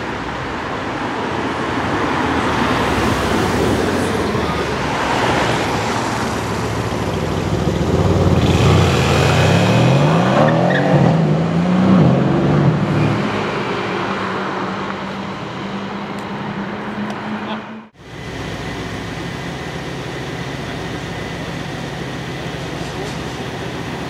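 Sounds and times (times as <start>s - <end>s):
street traffic: 0.0s - 24.0s
car engine rumbling and accelerating: 0.1s - 24.0s.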